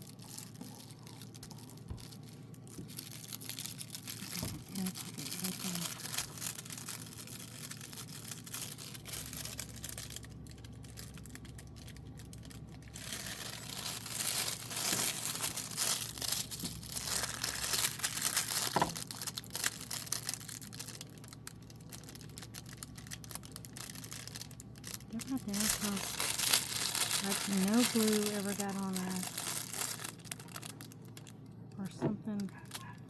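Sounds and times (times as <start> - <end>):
plastic film crinkling: 0.0 - 33.0.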